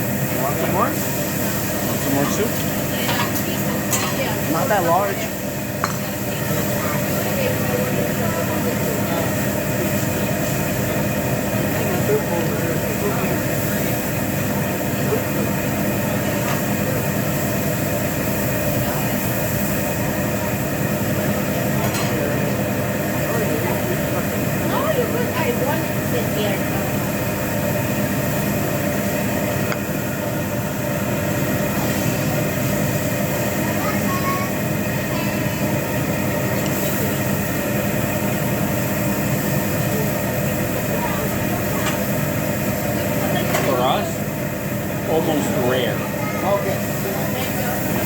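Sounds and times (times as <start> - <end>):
exhaust ventilation rushing: 0.0 - 48.0
grill cooking noise: 0.0 - 48.0
mechanical hum and hiss: 0.0 - 48.0
faint talk: 0.3 - 48.0.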